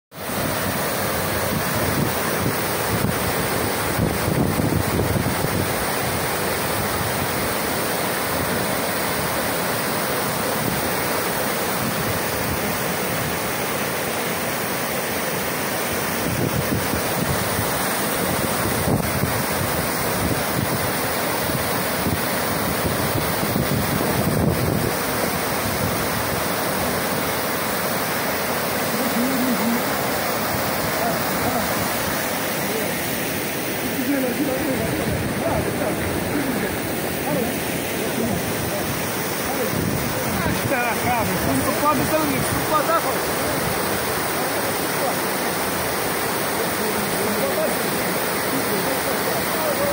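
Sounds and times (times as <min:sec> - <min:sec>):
waterfalls splashing into pool: 0:00.1 - 0:49.9.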